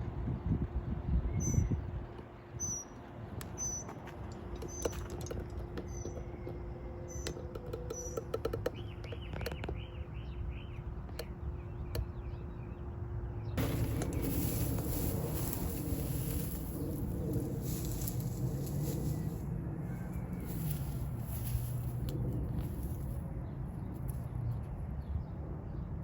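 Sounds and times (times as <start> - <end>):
steady low hum: 0.0 - 26.0
small birds chirping: 1.2 - 4.0, 4.6 - 25.3.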